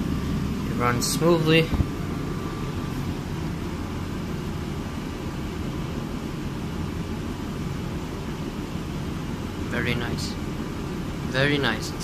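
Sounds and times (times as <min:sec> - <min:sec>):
tumble dryer humming: 0:00.0 - 0:12.0.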